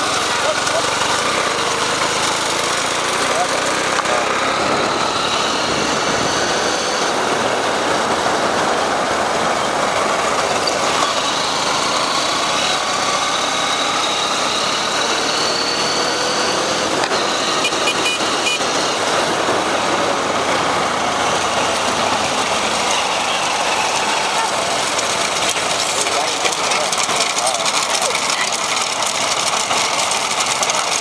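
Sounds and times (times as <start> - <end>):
rushing noise: 0.0 - 27.8
vehicle engine running: 0.0 - 31.0.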